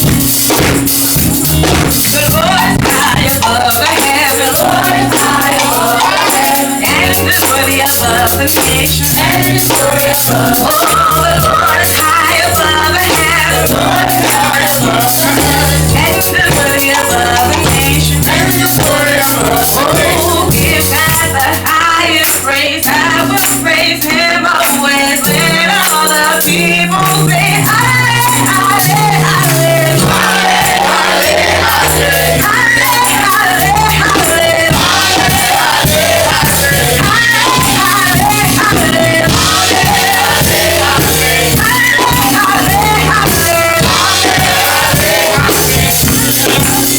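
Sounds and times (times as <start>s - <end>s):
walking bass line: 0.0s - 21.4s, 27.4s - 46.9s
shaken percussion: 0.0s - 46.9s
group singing: 1.2s - 46.9s.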